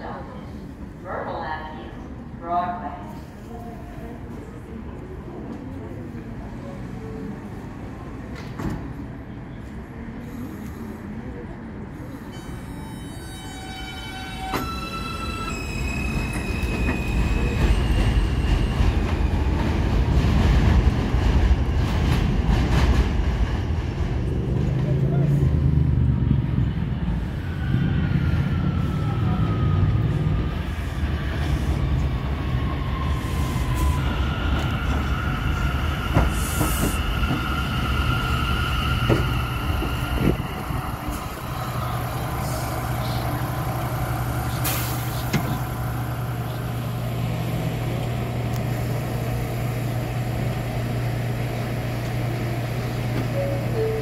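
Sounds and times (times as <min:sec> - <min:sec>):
train humming at platform: 0:00.0 - 0:54.0.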